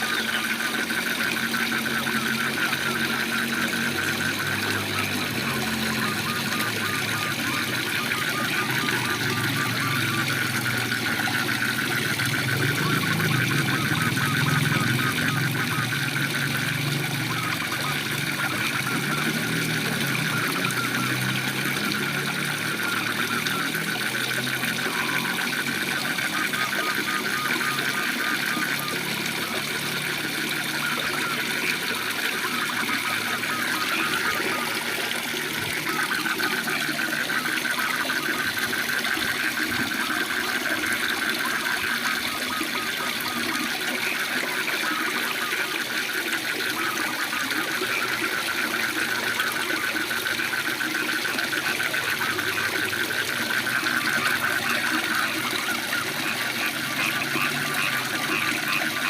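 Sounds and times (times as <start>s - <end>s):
frogs calling in a pulsing trill: 0.0s - 59.0s.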